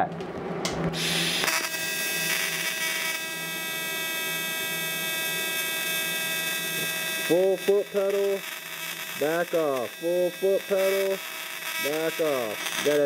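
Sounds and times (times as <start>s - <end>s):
welding arc buzz: 0.6s - 13.0s
welding arc strike hiss: 0.9s - 13.0s.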